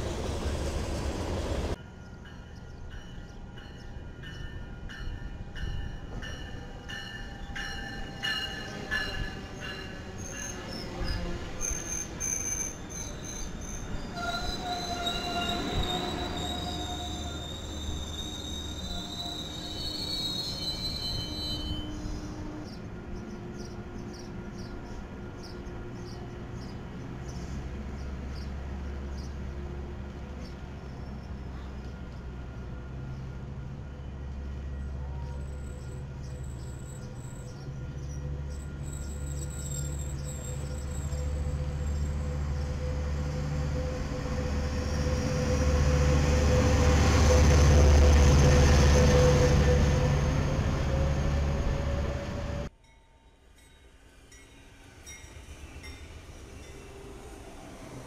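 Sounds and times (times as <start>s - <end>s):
train wheels squealing on rails: 0.0s - 28.5s, 30.4s - 52.7s, 53.4s - 58.0s
train rumbling slowly: 0.0s - 58.0s.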